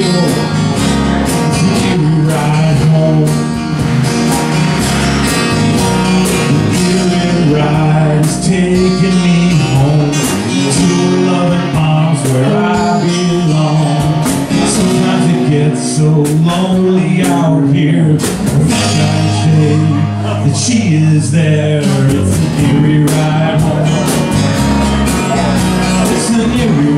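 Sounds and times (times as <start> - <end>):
man singing: 0.0 - 26.9
strummed acoustic guitars: 0.0 - 26.9.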